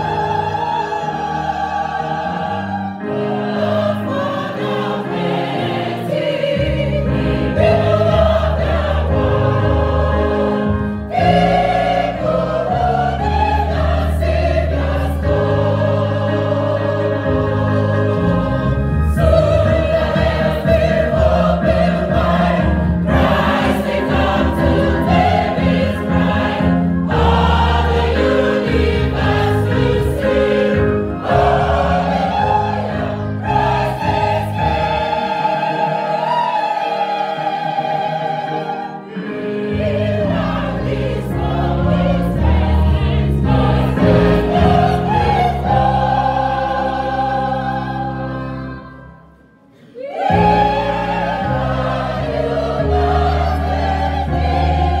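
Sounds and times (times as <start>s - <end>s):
women's choir singing: 0.0s - 55.0s.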